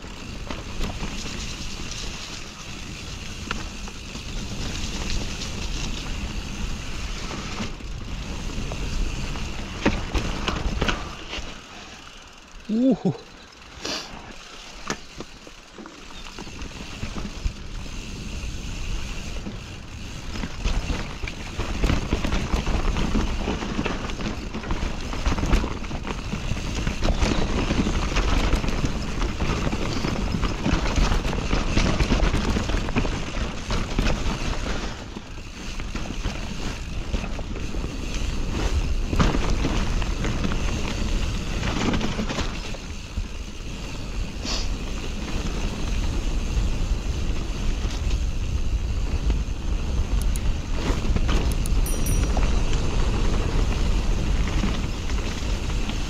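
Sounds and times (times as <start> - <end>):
bike rattling over bumps: 0.0 - 56.0
bike tyres skidding on dirt: 0.0 - 56.0.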